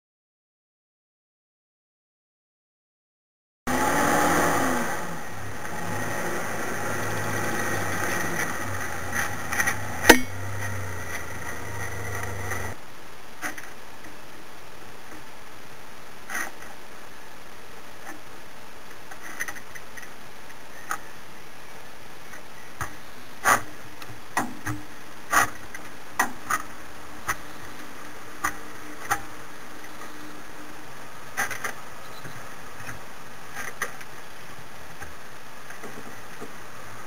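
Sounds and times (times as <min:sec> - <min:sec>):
steady hiss: 0:03.8 - 0:37.0.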